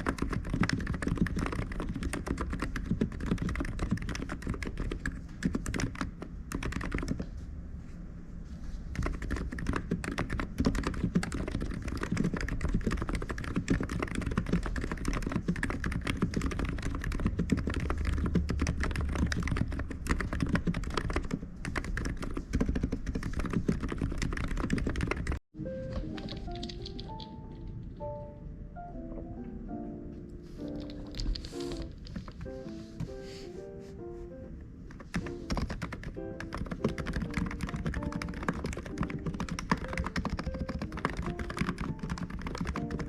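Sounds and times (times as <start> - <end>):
keyboard typing: 0.0 - 7.3, 8.9 - 27.8, 30.6 - 33.1, 34.9 - 43.0.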